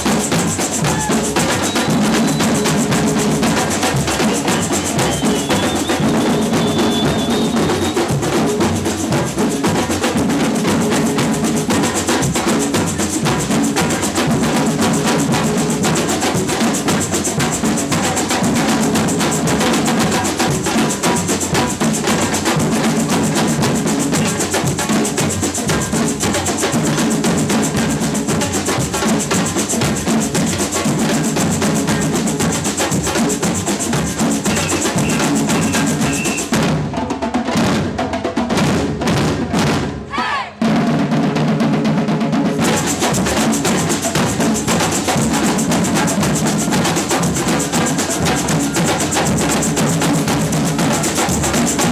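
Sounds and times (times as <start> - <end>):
samba percussion band: 0.0 - 51.9.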